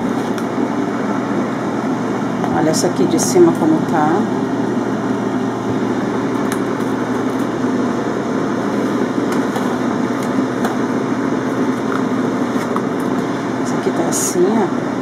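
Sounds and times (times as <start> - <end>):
air fryer fan whirring: 0.0 - 15.0.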